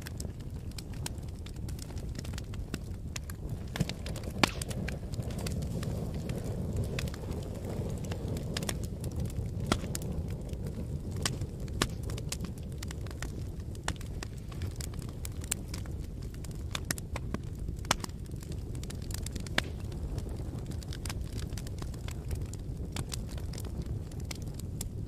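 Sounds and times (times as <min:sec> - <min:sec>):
low rumble of burning: 0:00.0 - 0:25.0
wood fire crackling: 0:00.0 - 0:25.0.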